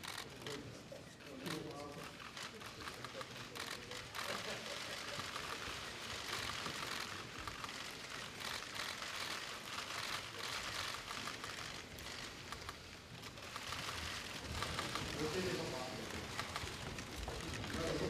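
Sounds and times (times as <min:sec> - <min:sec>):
camera shutters clicking: 0:01.3 - 0:18.0.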